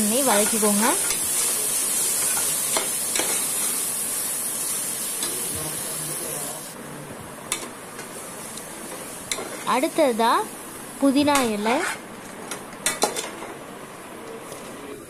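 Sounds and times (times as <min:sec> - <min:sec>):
food sizzling in hot oil: 0:00.0 - 0:06.8, 0:07.5 - 0:13.6.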